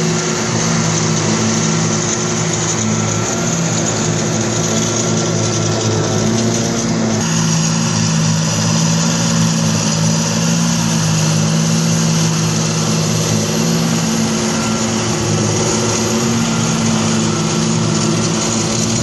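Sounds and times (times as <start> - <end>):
forage harvester rotor whirr: 0.0 - 19.0
tractor diesel engine drone: 0.0 - 19.0.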